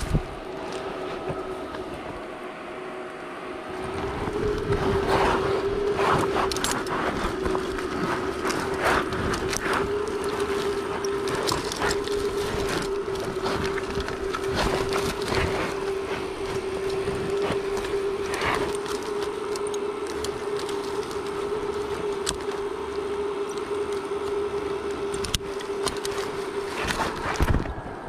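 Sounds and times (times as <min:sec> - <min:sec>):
rustling of branches and leaves: 0:00.0 - 0:28.0
steady hum: 0:00.0 - 0:28.0
metal climbing gear clicking: 0:03.8 - 0:27.7.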